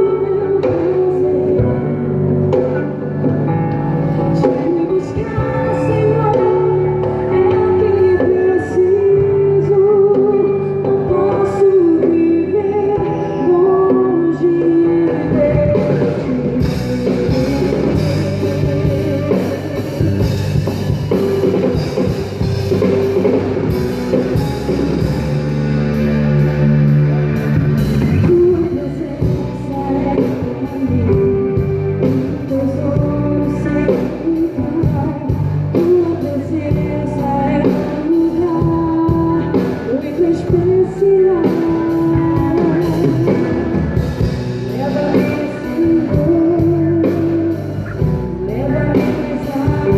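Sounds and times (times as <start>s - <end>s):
drum kit: 0.0s - 49.9s
guitar: 0.0s - 49.9s
person singing: 0.0s - 49.9s.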